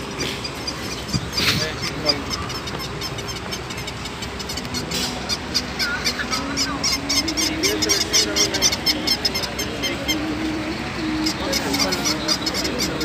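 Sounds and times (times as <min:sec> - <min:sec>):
toy animals chirping and squeaking: 0:00.0 - 0:13.0.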